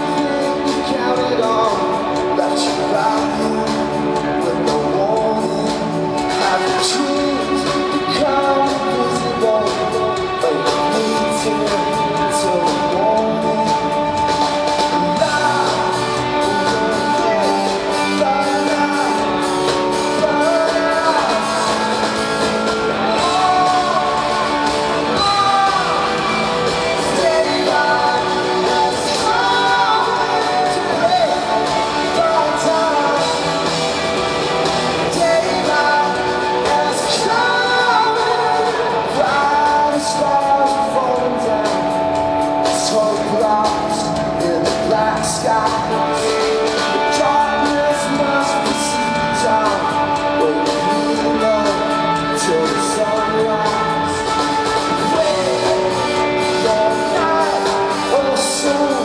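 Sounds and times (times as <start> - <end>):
lead singer: 0.0 - 59.0
rock band playing live: 0.0 - 59.0.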